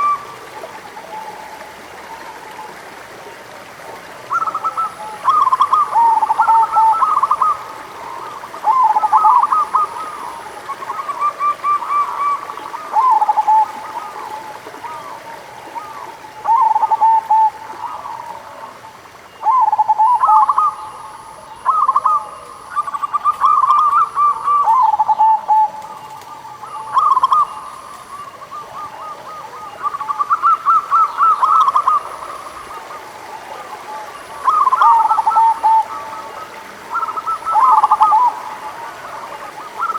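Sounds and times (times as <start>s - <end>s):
doves cooing: 4.2s - 39.9s.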